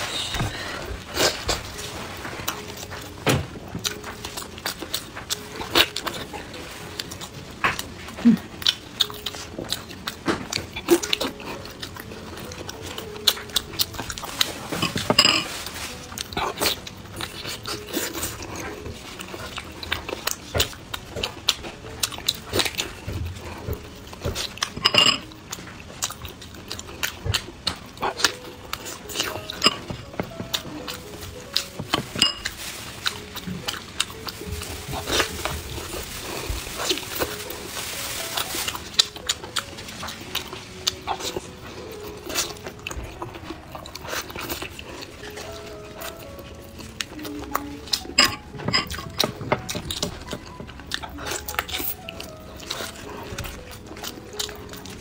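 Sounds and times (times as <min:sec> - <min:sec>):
person chewing wetly: 0:00.0 - 0:55.0
sausage squishing: 0:00.0 - 0:55.0.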